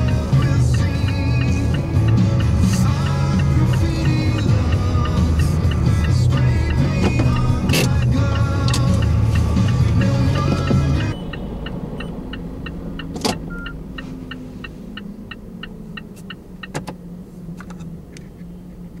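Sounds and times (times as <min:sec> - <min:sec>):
sharp clicks: 0:00.0 - 0:17.0
car warning ticker: 0:00.0 - 0:19.0
low hum: 0:00.0 - 0:19.0
music in car: 0:00.0 - 0:19.0.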